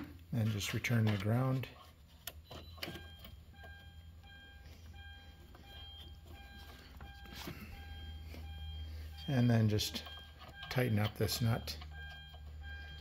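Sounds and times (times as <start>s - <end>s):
electronic warning chime beeping: 2.4s - 13.0s.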